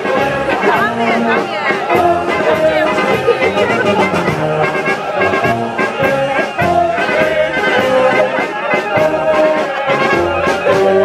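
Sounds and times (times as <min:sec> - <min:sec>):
brass band playing a march: 0:00.0 - 0:11.0.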